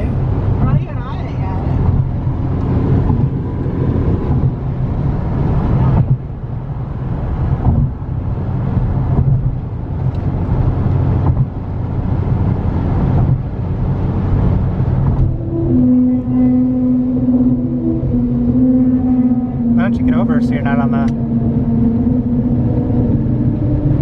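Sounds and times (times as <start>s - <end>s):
gusty wind noise: 0.0s - 24.0s
low road rumble: 0.0s - 24.0s.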